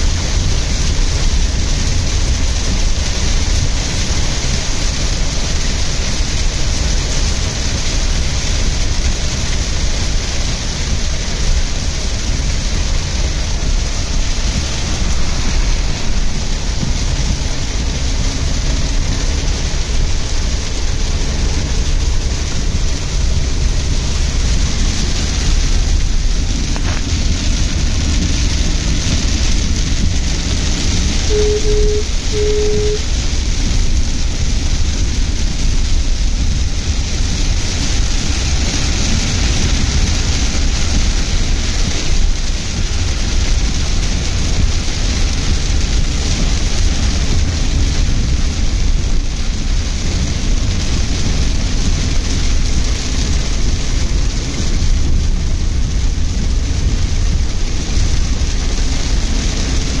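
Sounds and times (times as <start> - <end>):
car rumbling on wet road: 0.0 - 60.0
heavy rain on car roof: 0.0 - 60.0.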